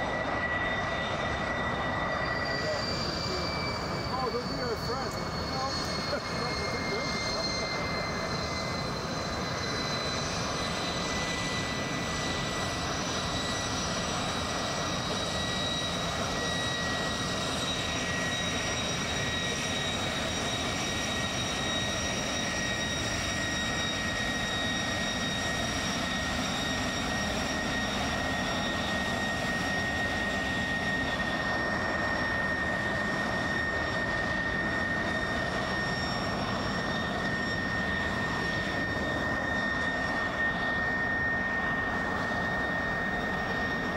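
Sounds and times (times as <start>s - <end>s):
jet engine running with whine: 0.0s - 43.9s.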